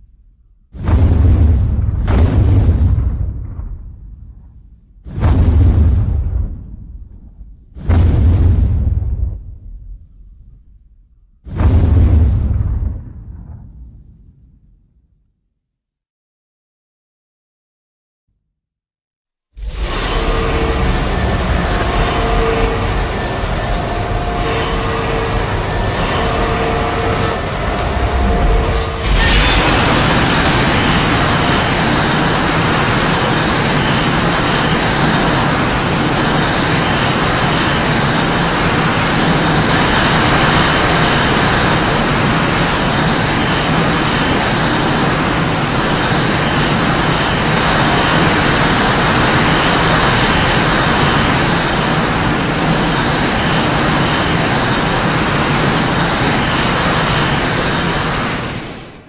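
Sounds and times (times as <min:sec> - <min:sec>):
loud rushing rumble: 0:00.7 - 0:10.2, 0:19.6 - 0:59.0.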